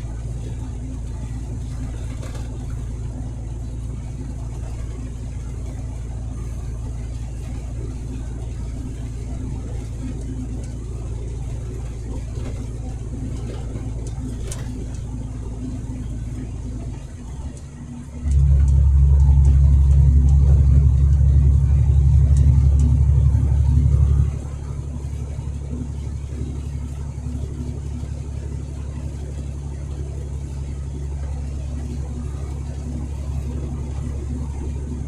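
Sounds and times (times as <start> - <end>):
truck engine and road noise: 0.0 - 35.0.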